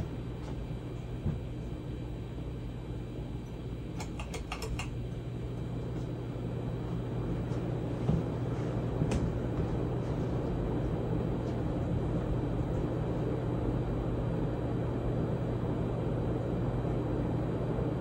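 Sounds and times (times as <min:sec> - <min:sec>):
ceiling fan humming: 0:00.0 - 0:18.0.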